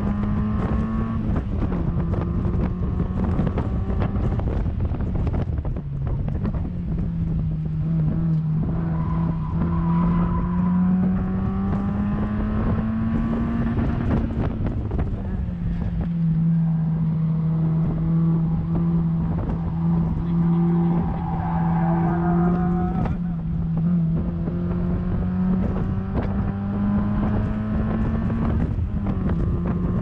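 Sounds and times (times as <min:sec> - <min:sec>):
car engine running under load: 0:00.0 - 0:30.0.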